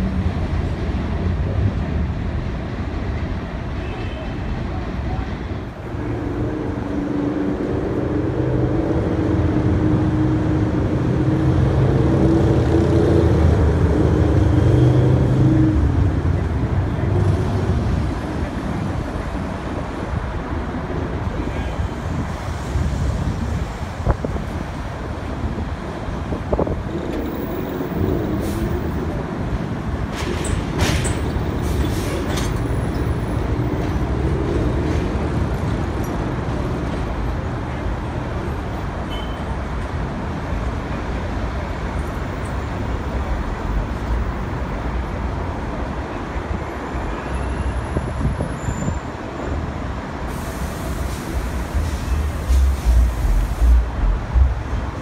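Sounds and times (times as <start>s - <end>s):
train wheels rumbling on rail: 0.0s - 46.6s, 47.5s - 55.0s.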